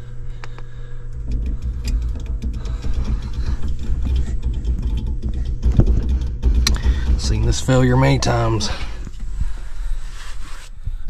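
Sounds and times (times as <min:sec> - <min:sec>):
blower motor rumbling: 0:00.0 - 0:11.0.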